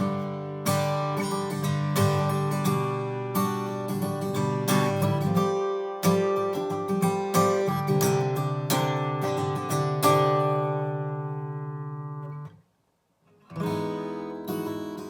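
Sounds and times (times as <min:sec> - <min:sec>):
acoustic guitar chords ringing: 0:00.0 - 0:12.6, 0:13.5 - 0:15.0.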